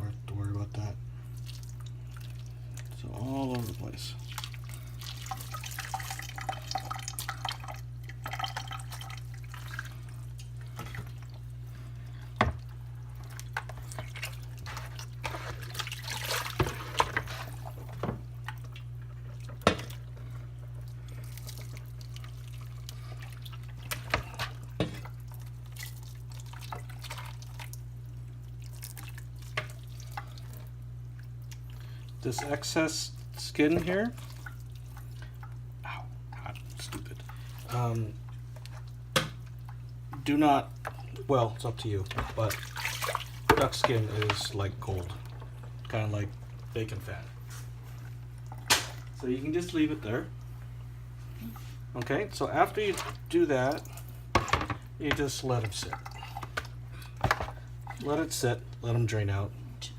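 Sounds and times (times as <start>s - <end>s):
steady low hum: 0.0s - 59.9s
boiling water pouring and splashing: 0.3s - 59.5s.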